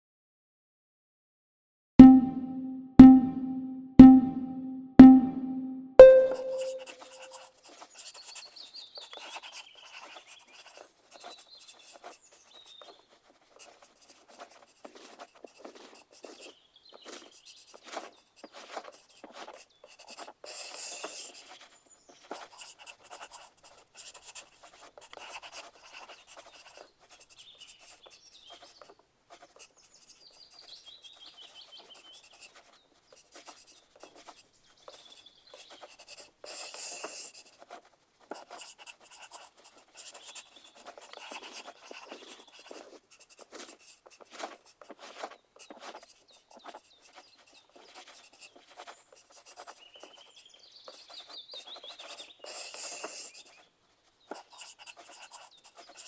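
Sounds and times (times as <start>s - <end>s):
pencils scratching on paper: 6.4s - 53.7s, 54.3s - 56.0s.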